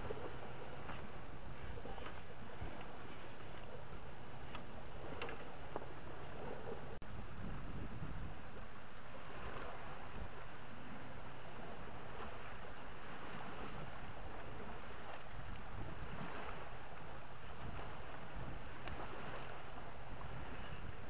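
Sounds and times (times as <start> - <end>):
river water: 0.0 - 21.0
wind: 0.0 - 21.0.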